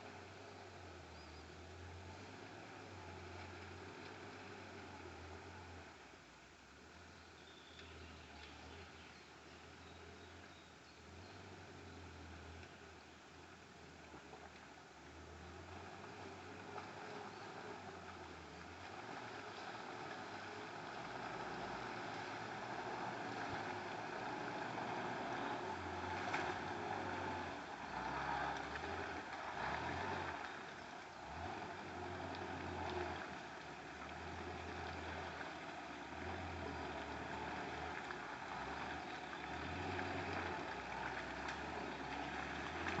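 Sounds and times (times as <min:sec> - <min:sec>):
off-road vehicle engine rumbling: 0:00.0 - 0:43.0.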